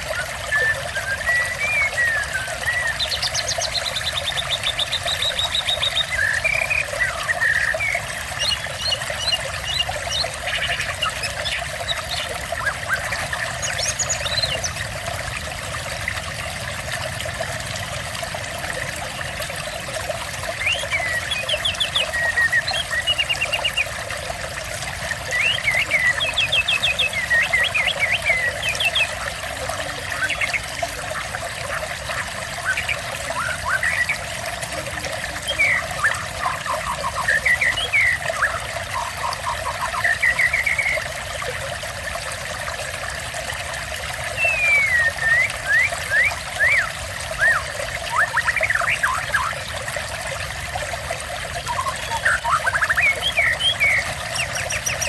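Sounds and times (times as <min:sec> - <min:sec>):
birds singing: 0:00.0 - 0:16.2, 0:18.5 - 0:41.2, 0:44.2 - 0:55.0
trickling water: 0:00.0 - 0:55.0.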